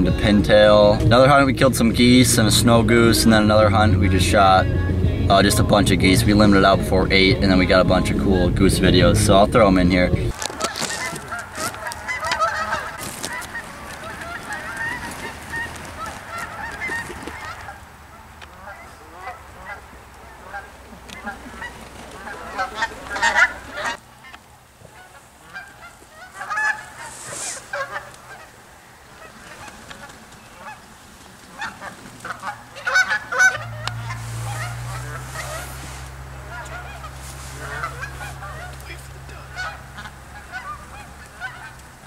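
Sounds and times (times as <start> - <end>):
geese honking: 0.0 - 42.0.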